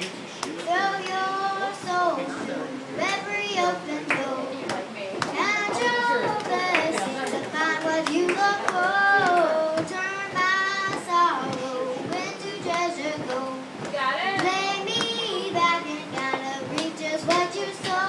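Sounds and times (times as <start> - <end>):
girl singing into a microphone: 0.4 - 18.0.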